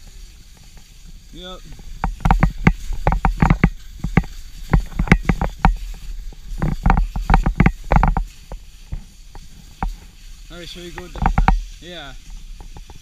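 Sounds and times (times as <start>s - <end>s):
skis scraping over snow: 0.0s - 13.0s.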